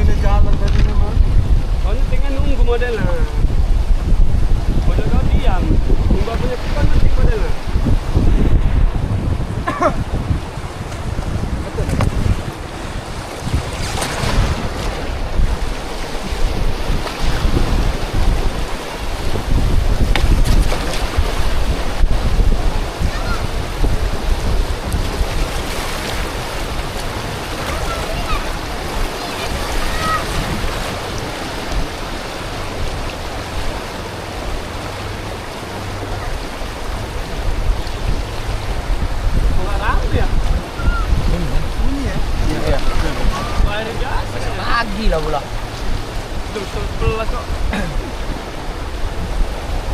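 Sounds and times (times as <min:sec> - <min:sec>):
rushing river water: 0:00.0 - 0:49.9
water splashes: 0:00.0 - 0:49.9
wind buffeting microphone: 0:00.0 - 0:49.9.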